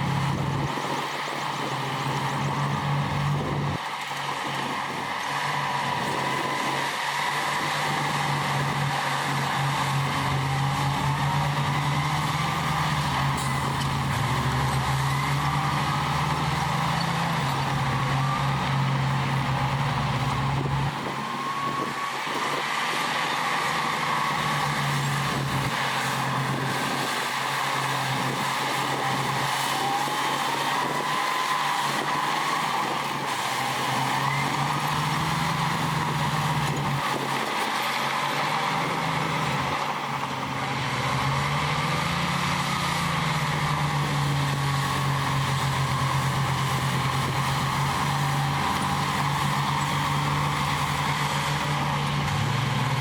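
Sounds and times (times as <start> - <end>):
diesel machinery running: 0.0 - 53.0
rising hydraulic whines: 0.0 - 53.0.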